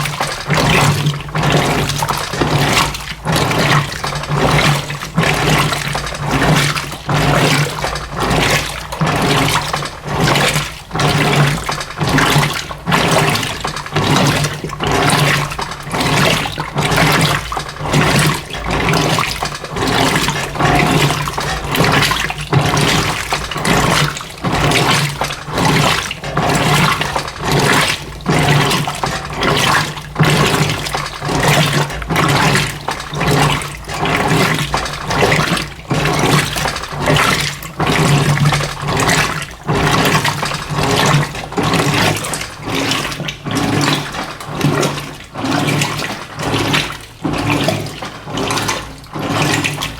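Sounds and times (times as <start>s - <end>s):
washing machine motor hum: 0.0s - 49.9s
water sloshing in washing machine: 0.0s - 49.9s.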